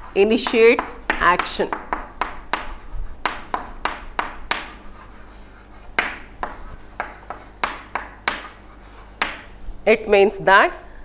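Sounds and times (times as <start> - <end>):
pen scratching on writing surface: 0.0 - 9.4.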